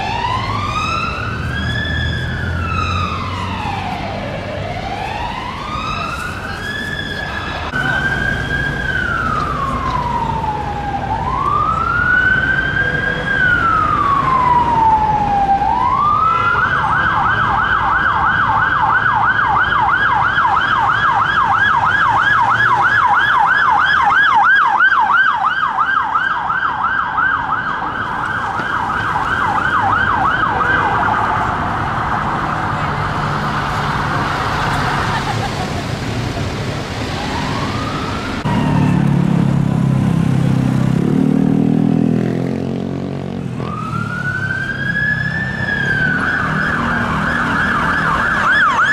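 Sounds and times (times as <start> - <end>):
police siren wailing and yelping: 0.0 - 35.6, 37.0 - 39.4, 43.6 - 48.9
traffic rumble: 0.0 - 48.9.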